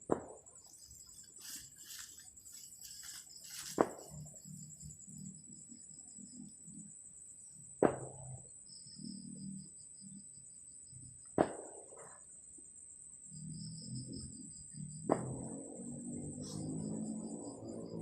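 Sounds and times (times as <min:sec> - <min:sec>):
insects trilling: 0:00.3 - 0:11.4, 0:12.0 - 0:18.0
insect chirring: 0:00.4 - 0:11.3, 0:11.9 - 0:18.0.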